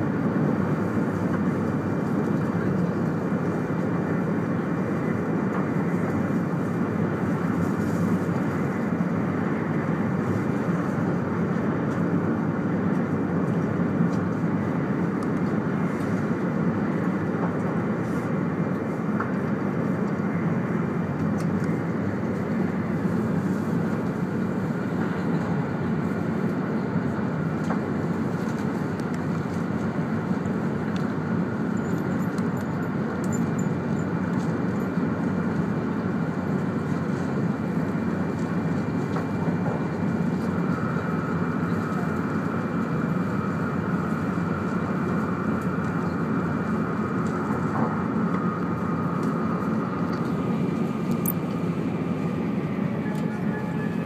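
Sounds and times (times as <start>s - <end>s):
train interior running noise: 0.0s - 54.0s.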